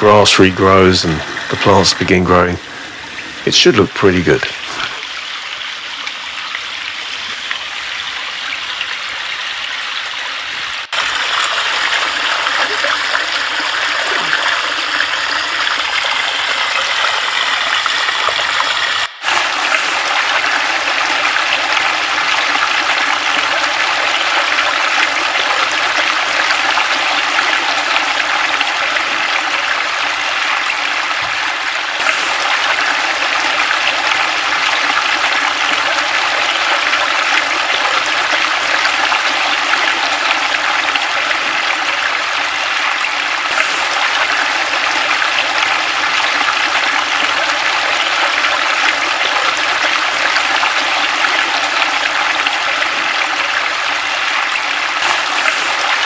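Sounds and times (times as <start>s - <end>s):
water splashing over rocks: 10.9s - 56.0s.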